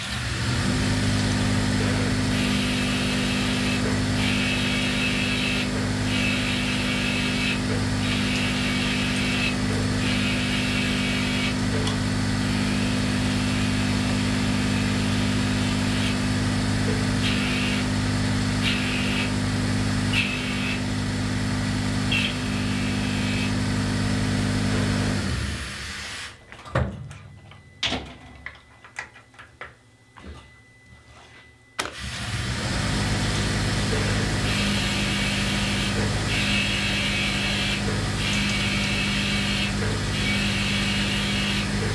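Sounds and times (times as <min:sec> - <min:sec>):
lathe spindle hum: 0:00.0 - 0:26.2, 0:32.0 - 0:41.9.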